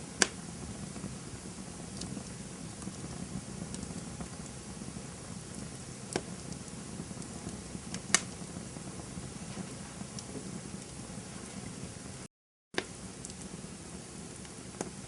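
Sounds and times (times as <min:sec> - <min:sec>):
sharp pops from fire: 0:00.0 - 0:11.8, 0:12.8 - 0:15.0
campfire hissing and crackling: 0:00.0 - 0:15.0.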